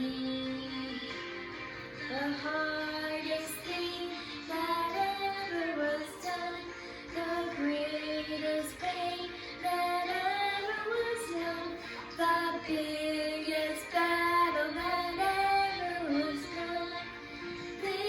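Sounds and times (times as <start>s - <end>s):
woman and children singing: 0.0s - 1.2s, 2.1s - 18.0s
musical accompaniment: 0.0s - 18.0s.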